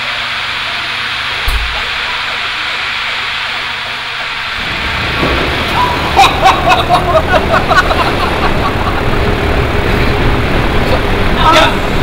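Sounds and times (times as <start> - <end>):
fans driving strong wind: 0.0 - 12.0.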